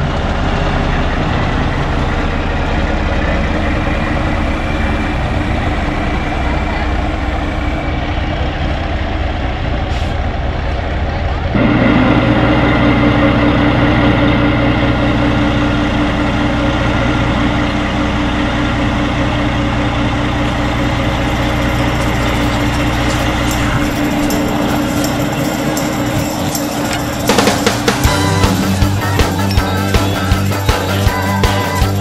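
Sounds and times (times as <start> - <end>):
diesel truck engines idling: 0.0 - 32.0.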